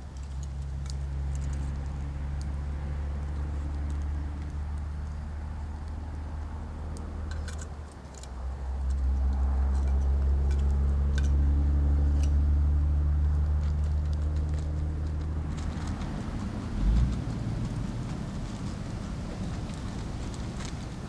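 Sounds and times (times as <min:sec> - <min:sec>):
steady engine hum: 0:00.0 - 0:21.0.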